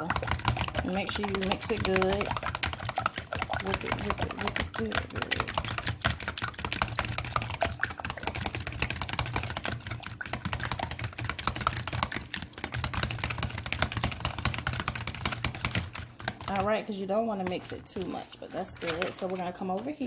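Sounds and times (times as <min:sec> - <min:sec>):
utensil clicking against bowl: 0:00.0 - 0:16.8.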